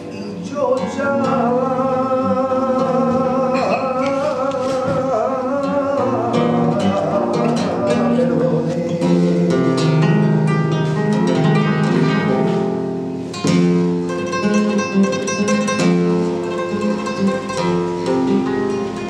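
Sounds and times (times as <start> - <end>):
flamenco guitar: 0.0 - 19.0
man singing flamenco: 0.0 - 19.0.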